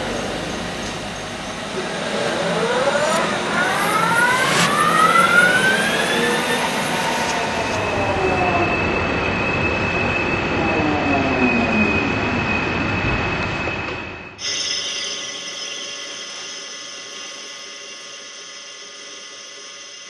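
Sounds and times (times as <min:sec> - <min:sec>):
machine tool whining: 0:00.0 - 0:20.0.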